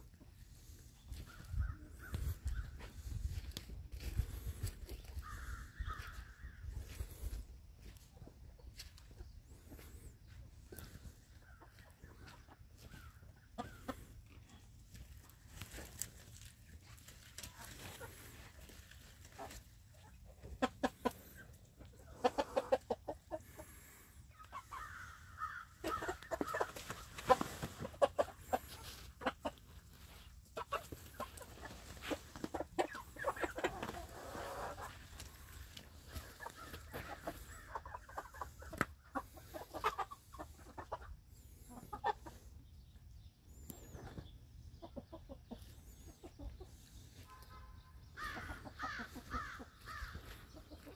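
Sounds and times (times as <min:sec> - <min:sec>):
hens clucking: 0:00.0 - 0:50.9.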